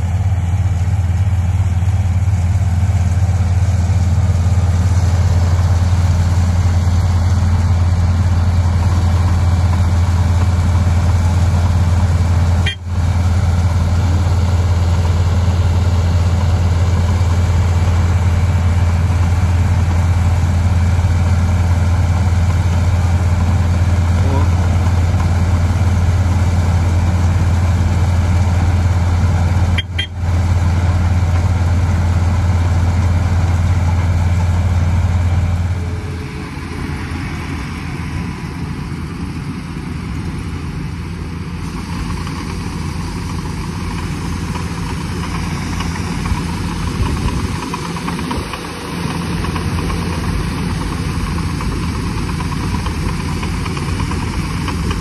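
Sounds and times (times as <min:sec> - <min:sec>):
diesel engines idling: 0:00.0 - 0:55.0
grain pouring from auger: 0:00.1 - 0:40.1, 0:40.8 - 0:55.0.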